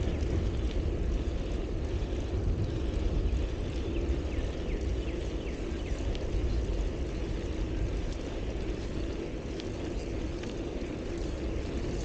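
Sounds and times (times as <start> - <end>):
bicycle tyre rumble: 0.0 - 12.0
wind buffeting microphone: 0.0 - 12.0.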